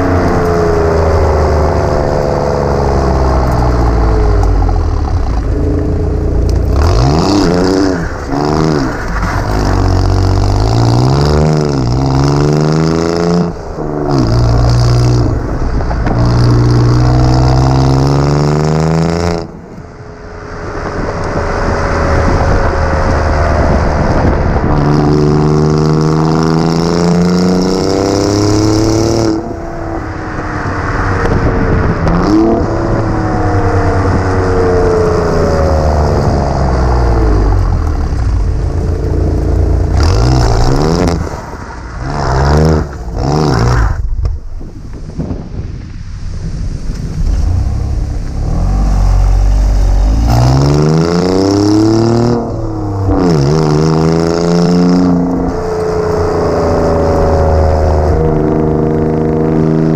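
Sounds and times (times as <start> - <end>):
car exhaust accelerating: 0.0 - 59.9
road noise: 0.0 - 59.9.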